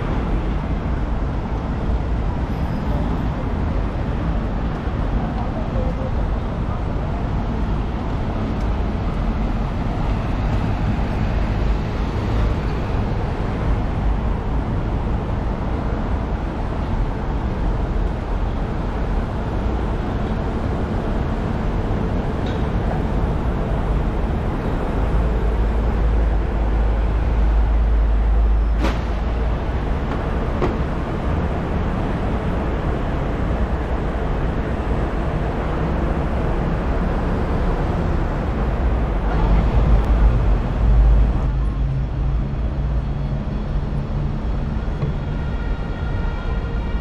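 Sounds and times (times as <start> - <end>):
bus engines idling: 0.0 - 47.0
road traffic rumble: 0.0 - 47.0.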